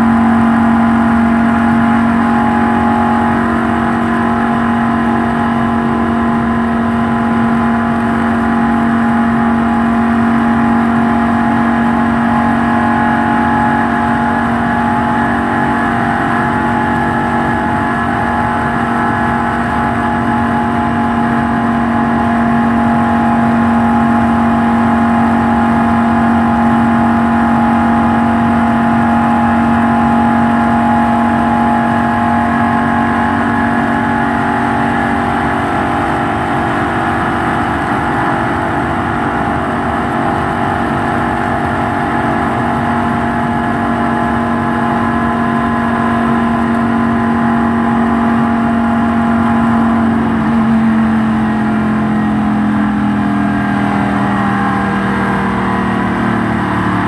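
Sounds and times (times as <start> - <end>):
race car engine droning: 0.0 - 57.0
road and wind noise: 0.0 - 57.0.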